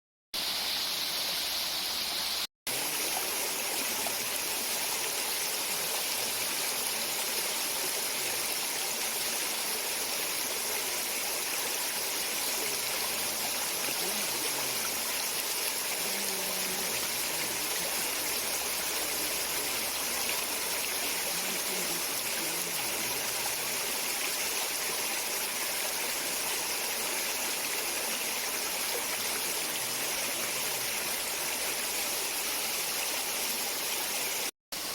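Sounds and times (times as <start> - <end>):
stream water rushing over rocks: 0.6 - 34.9.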